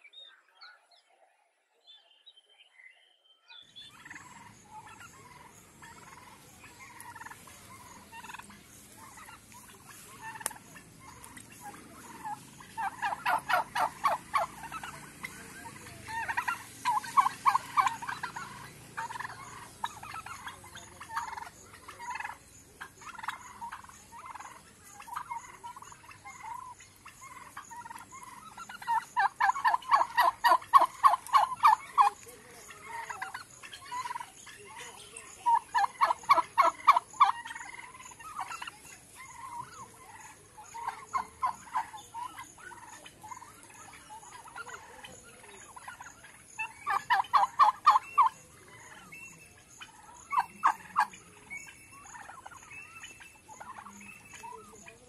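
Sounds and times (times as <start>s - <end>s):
turkeys gobbling: 3.6s - 55.0s.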